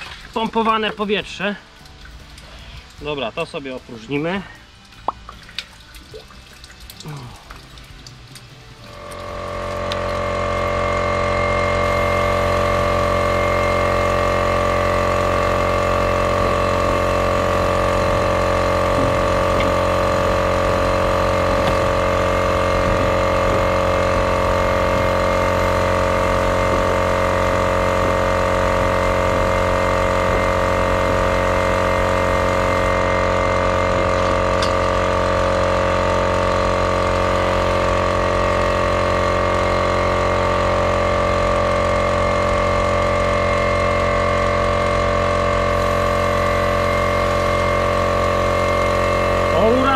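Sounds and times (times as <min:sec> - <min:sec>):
air compressor running: 0:06.9 - 0:49.9.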